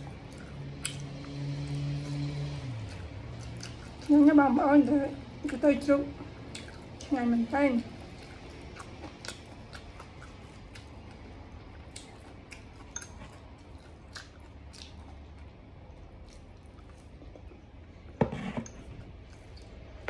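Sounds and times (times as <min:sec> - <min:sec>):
wet chewing sounds: 0:00.0 - 0:04.6, 0:05.2 - 0:07.2, 0:07.8 - 0:17.8, 0:18.6 - 0:20.0.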